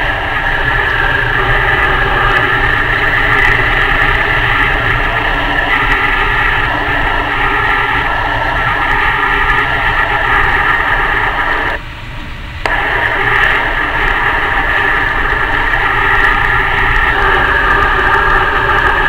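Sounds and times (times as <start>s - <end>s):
train running at speed interior: 0.0s - 19.0s.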